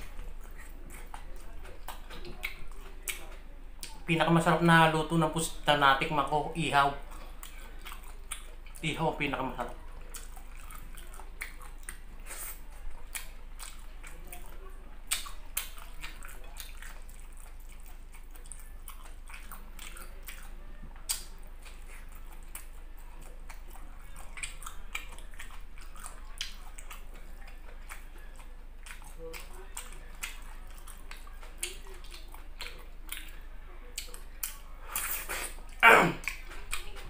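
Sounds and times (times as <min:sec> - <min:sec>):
close chewing with mouth smacks: 0:00.0 - 0:04.6, 0:06.7 - 0:37.0.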